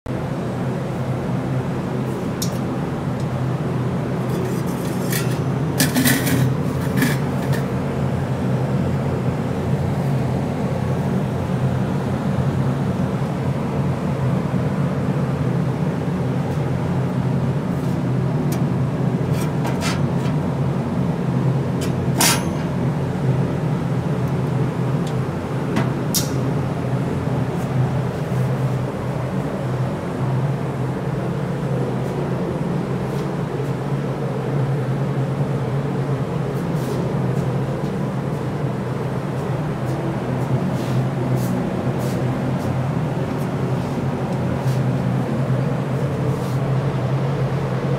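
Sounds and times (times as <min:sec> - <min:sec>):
pellet fire burning drone: 0:00.2 - 0:47.9.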